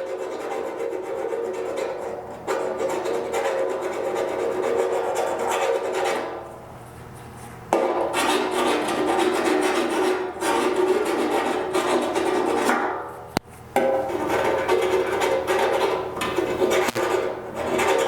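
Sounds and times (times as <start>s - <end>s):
rasp scraping metal tank: 0.0s - 13.1s, 13.8s - 18.0s.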